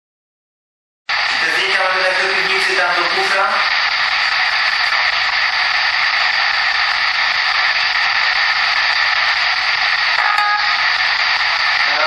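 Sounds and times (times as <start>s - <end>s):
loud static hiss: 1.1s - 12.0s.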